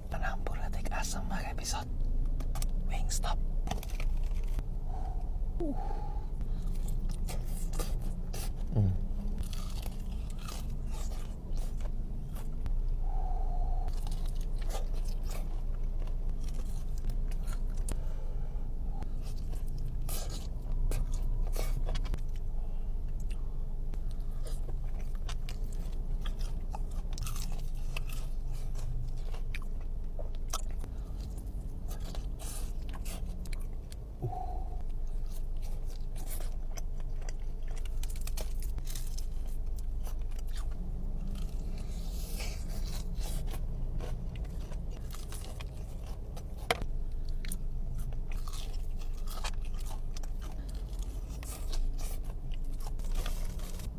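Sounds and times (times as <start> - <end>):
low steady hum: 0.0 - 53.9
crunchy bites and chewing: 1.6 - 18.2, 18.9 - 53.9.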